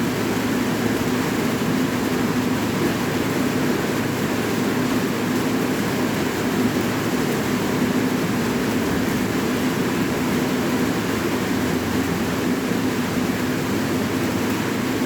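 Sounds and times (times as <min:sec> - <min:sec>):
steady rain with low rumble: 0:00.0 - 0:15.0.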